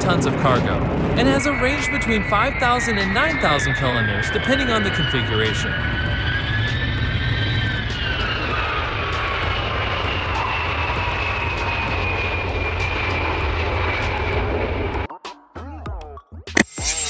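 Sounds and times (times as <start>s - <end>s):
jet engine rumble: 0.0s - 15.1s
jet engine whine: 0.0s - 15.2s.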